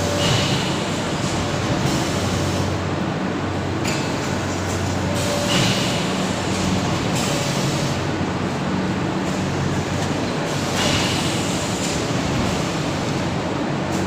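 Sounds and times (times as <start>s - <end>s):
forming machine droning: 0.0s - 14.0s.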